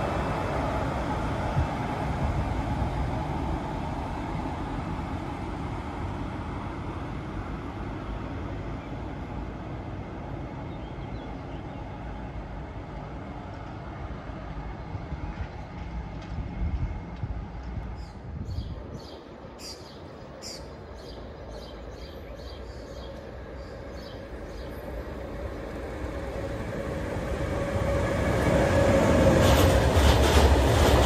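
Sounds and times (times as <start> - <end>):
train rumbling past: 0.0 - 31.0.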